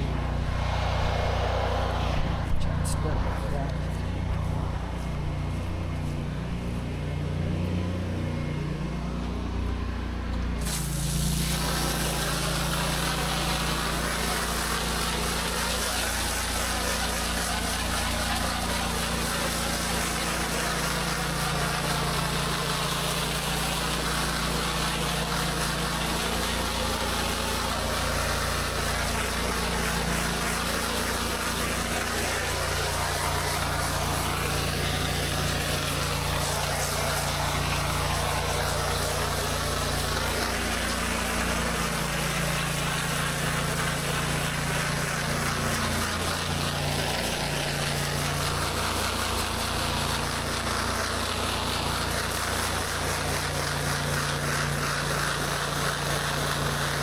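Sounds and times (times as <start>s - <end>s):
pressure washer engine running: 0.0s - 57.0s
water spray hiss: 10.6s - 57.0s.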